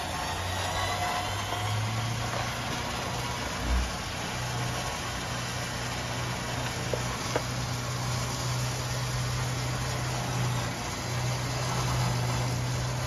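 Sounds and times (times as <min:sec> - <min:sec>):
electric winch reeling in: 0:00.0 - 0:13.0
truck engine idling: 0:00.0 - 0:13.0.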